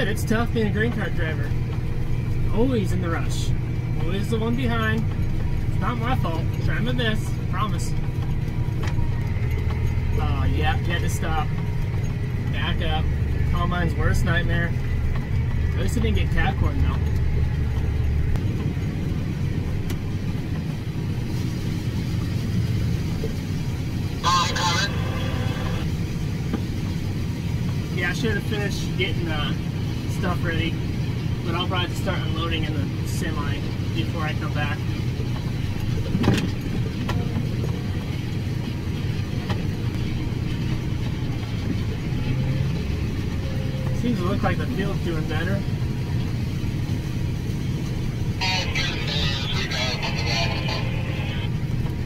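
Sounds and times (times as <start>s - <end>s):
tractor engine droning: 0.0s - 52.0s.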